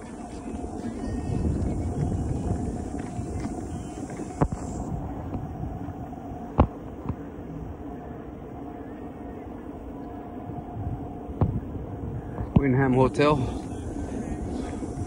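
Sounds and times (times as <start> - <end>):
faint hum: 0.0 - 15.0
low outdoor rumble: 0.0 - 15.0.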